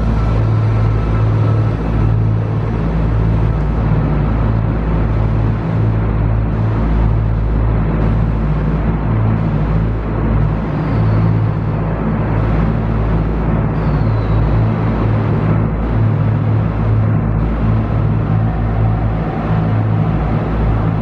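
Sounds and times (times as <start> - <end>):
diesel train engine drone: 0.0 - 21.0
faint high whine: 0.0 - 21.0.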